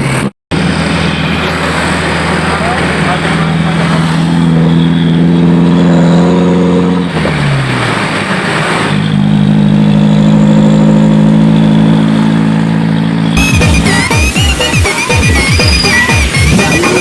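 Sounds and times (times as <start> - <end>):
loud truck exhaust: 0.0 - 17.0.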